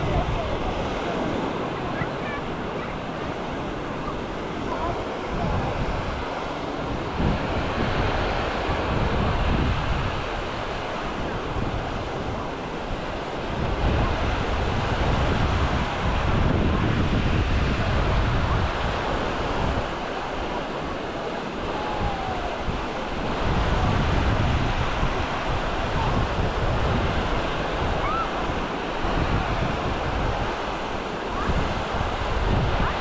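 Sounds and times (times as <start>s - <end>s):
waves breaking on shore: 0.0s - 33.0s
wind buffeting microphone: 0.0s - 33.0s.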